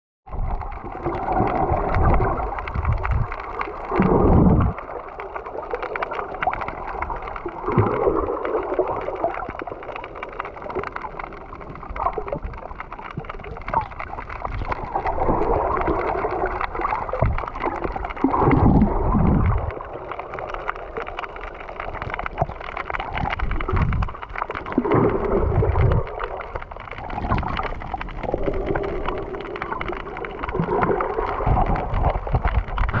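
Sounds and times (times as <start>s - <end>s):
deep low water surges: 0.3s - 33.0s
underwater water gurgling and sloshing: 0.3s - 33.0s.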